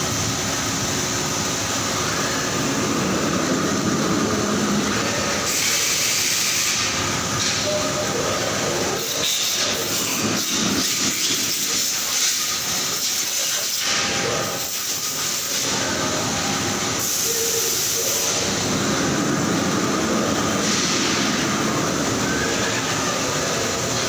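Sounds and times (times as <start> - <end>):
continuous hiss: 0.0 - 24.0
factory machinery noise: 0.0 - 24.0.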